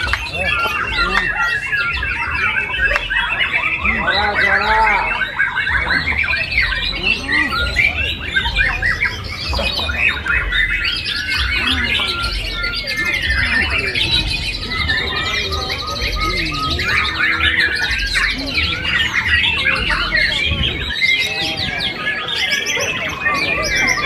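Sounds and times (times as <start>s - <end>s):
caged songbirds singing: 0.0s - 24.0s
fast bird trill: 0.0s - 24.0s.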